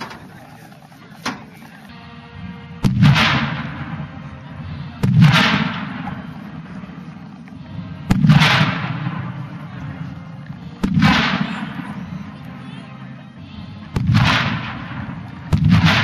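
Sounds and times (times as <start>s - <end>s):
rumbling echo: 0.0s - 16.0s.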